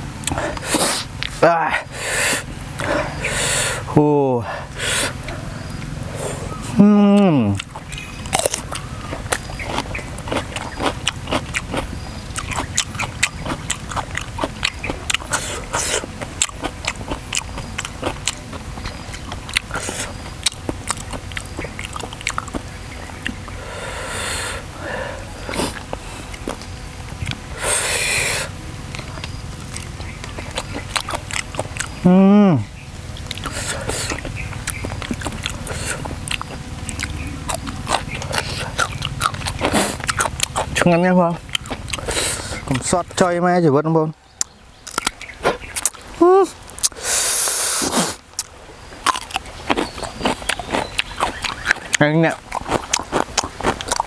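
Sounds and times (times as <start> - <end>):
wet smacking chewing: 0.2 - 3.9, 4.6 - 32.1, 33.0 - 43.3, 44.4 - 54.0.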